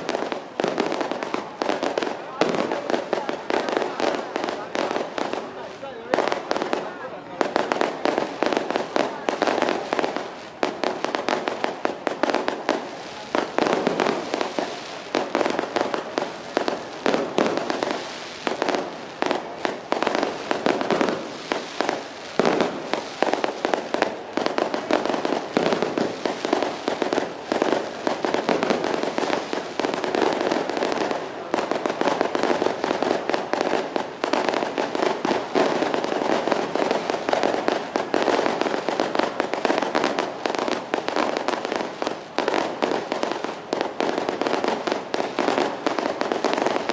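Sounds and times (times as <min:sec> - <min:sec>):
firecrackers banging rapidly: 0:00.0 - 0:46.9.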